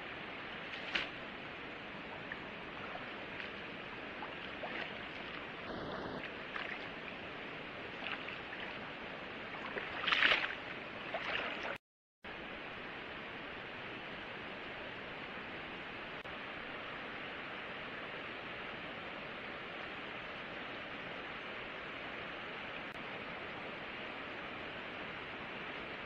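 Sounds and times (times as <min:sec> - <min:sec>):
flowing water: 0:00.0 - 0:26.0.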